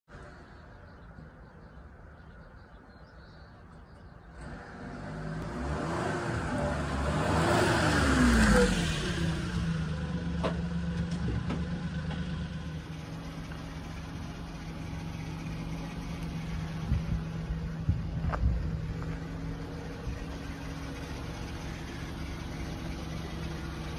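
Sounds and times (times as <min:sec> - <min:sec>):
small truck engine passing and idling: 0:00.1 - 0:23.9.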